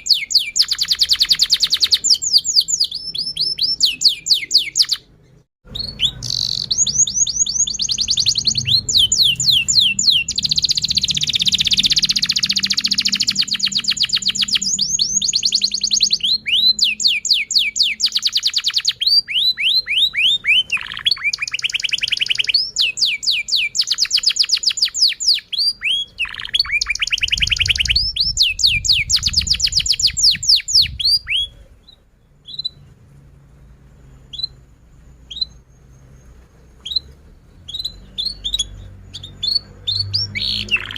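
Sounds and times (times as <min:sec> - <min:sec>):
canary singing trills: 0:00.0 - 0:33.0, 0:33.7 - 0:40.9.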